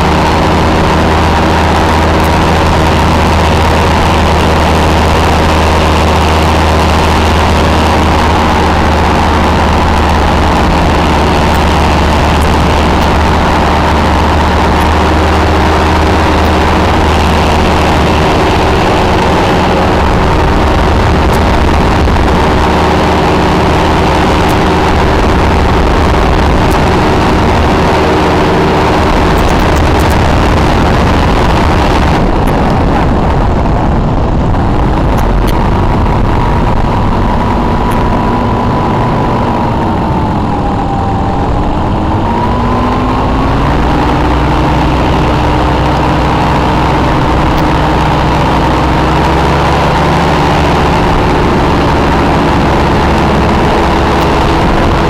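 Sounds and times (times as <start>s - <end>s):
microlight engine and propeller drone: 0.0s - 55.0s
rushing wind: 0.0s - 55.0s.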